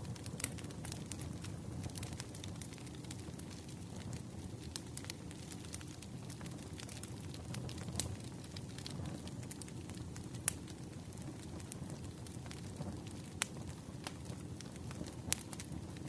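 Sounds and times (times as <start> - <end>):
fire pops and crackles: 0.0 - 16.0
firewood burning: 0.0 - 16.0.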